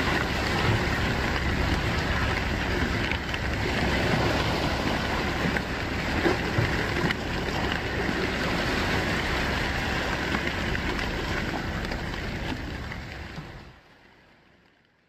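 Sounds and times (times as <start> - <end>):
sea water washing against rocks: 0.0 - 14.3.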